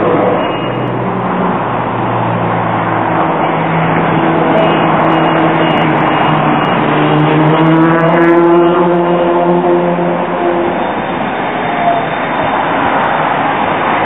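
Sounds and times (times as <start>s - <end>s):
loud rushing background: 0.0s - 14.0s
tram electrical hum: 0.0s - 14.0s.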